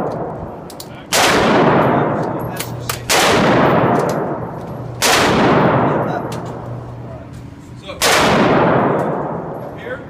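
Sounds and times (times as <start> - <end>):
gunshots echoing indoors: 0.0 - 6.9, 8.0 - 9.8.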